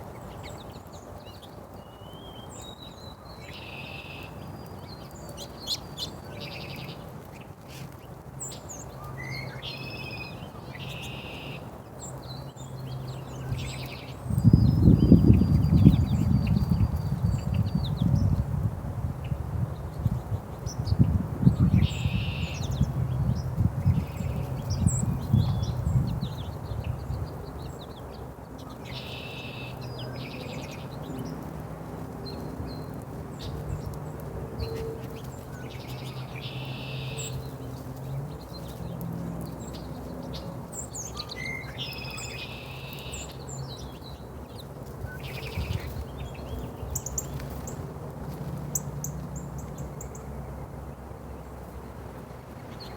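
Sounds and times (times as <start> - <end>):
small birds chirping: 0.0 - 18.5, 19.2 - 52.9.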